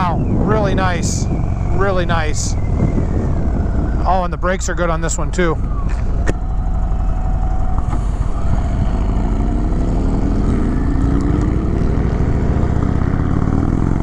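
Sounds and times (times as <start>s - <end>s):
motorcycle engine accelerating: 0.0s - 4.4s, 5.1s - 14.0s.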